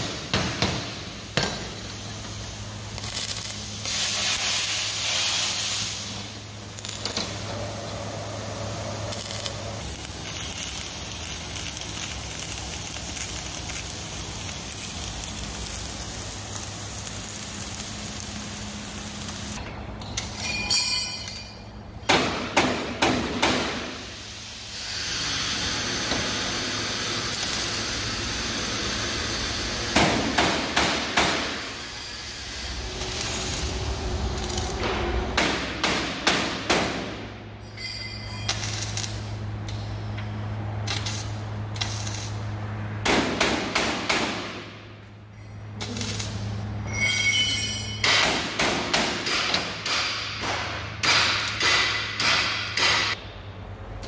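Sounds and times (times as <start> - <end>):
welding arc crackling hiss: 0.0 - 19.6, 23.2 - 37.4, 38.5 - 45.0, 45.8 - 47.2, 48.0 - 53.2.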